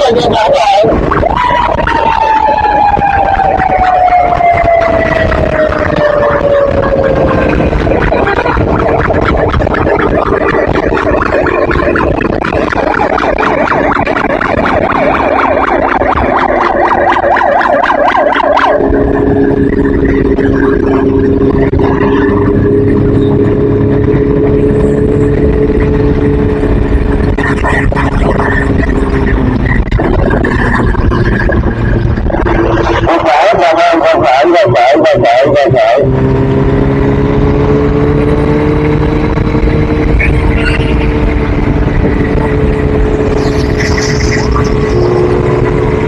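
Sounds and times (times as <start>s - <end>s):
engine running: 0.0s - 46.0s
steady siren drone: 0.0s - 46.0s
vehicle siren warbling: 0.0s - 46.0s.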